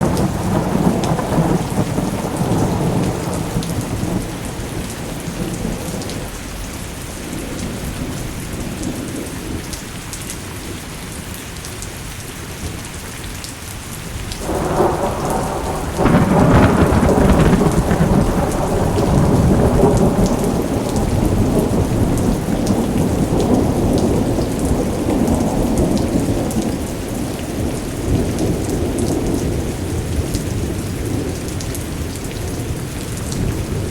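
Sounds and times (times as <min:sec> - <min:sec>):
rolling thunder: 0:00.0 - 0:09.7, 0:14.4 - 0:33.9
steady rain: 0:00.0 - 0:33.9.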